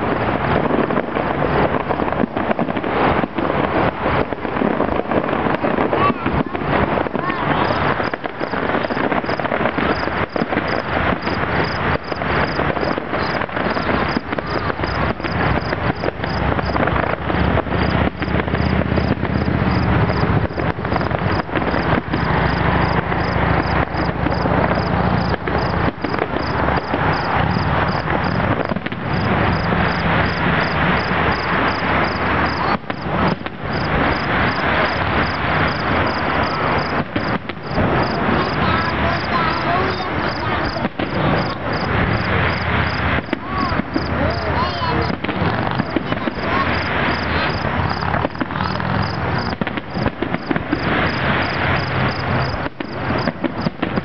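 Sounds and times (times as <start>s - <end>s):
fireworks crackling and popping: 0.0s - 54.0s
crickets chirping: 7.0s - 53.7s.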